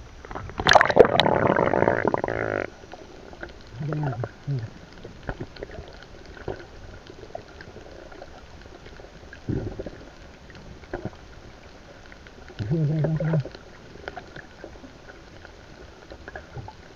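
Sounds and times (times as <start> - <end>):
crackle of small clicks underwater: 0.1 - 16.9
gurgling bubbly water: 0.2 - 16.9.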